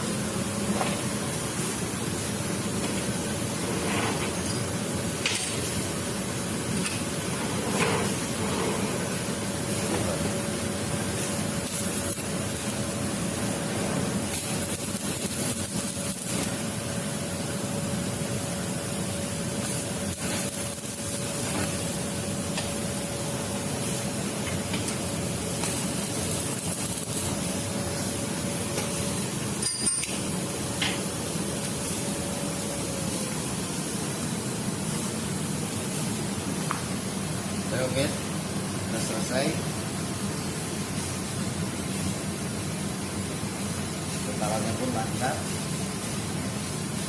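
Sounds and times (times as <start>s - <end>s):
arc welding hiss: 0.0s - 47.0s.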